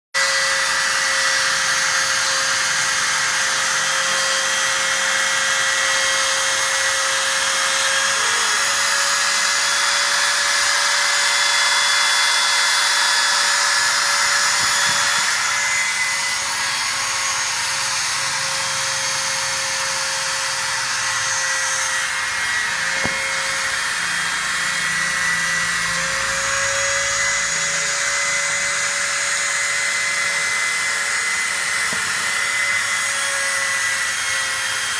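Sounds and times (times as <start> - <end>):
high-speed spindle whine: 0.2 - 34.9
high hiss of cutting: 0.4 - 34.9.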